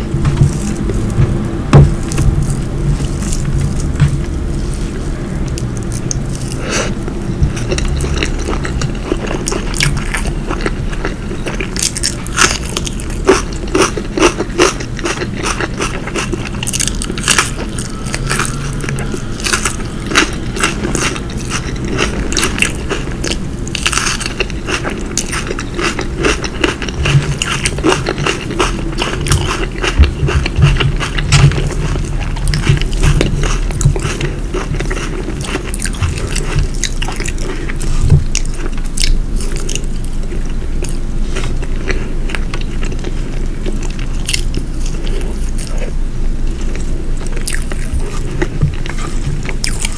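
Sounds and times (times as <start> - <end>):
chewing food: 0.0 - 49.9.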